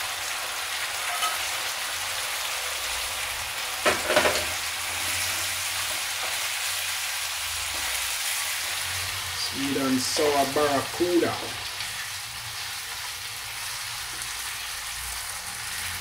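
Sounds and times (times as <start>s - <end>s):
sauce sizzling in a frying pan: 0.0s - 16.0s.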